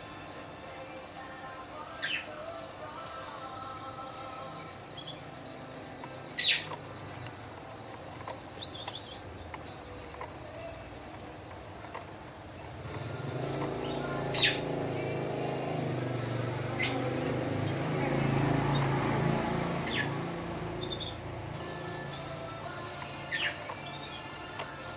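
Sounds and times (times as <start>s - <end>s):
canary chirping: 1.4s - 11.3s, 11.9s - 24.9s
low engine drone: 3.6s - 24.3s.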